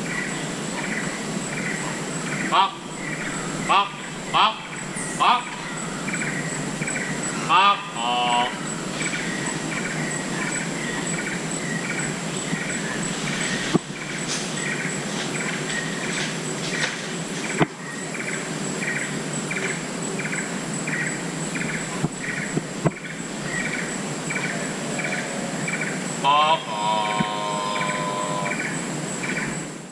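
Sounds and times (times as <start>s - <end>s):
high insect drone: 0.0s - 29.9s.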